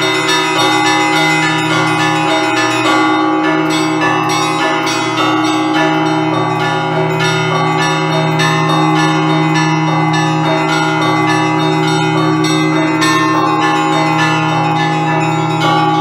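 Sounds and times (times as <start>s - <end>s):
large bell humming: 0.0s - 16.0s
small church bells pealing: 0.0s - 16.0s.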